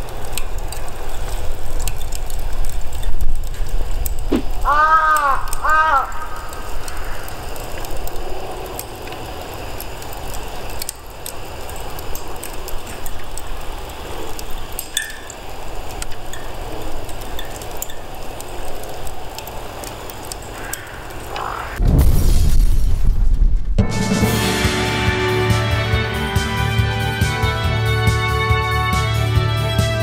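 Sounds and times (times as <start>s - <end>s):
charcoal crackling and popping: 0.0s - 24.7s.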